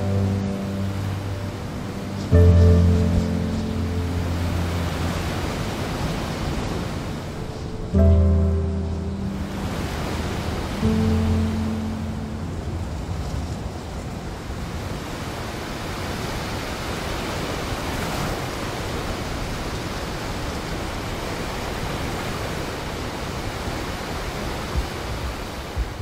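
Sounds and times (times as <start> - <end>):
sea surf breaking: 0.0 - 26.0.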